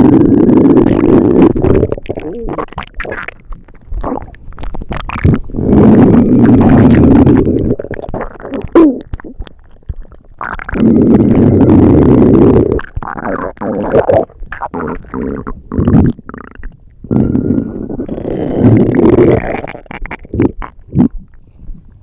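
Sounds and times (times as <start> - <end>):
stomach rumbling: 0.0 - 22.0.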